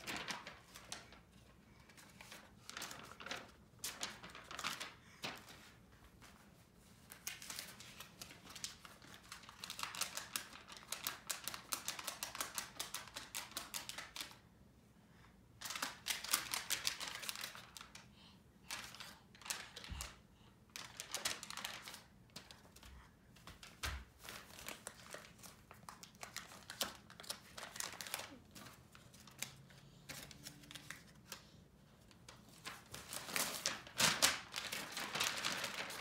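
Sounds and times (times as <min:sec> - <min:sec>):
paper sheets rattling and flapping: 0:00.0 - 0:14.4, 0:15.6 - 0:18.0, 0:18.6 - 0:31.4, 0:32.2 - 0:36.0.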